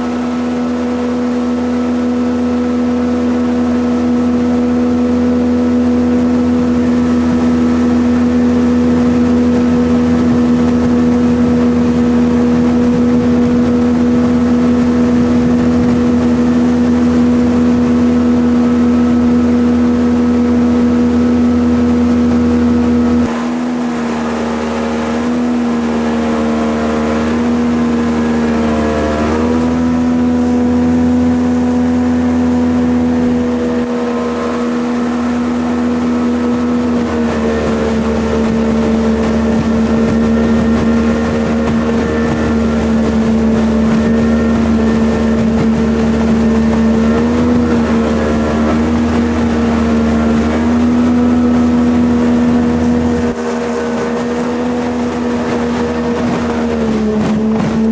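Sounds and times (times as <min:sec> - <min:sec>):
jet boat engine running: 0:00.0 - 0:57.9.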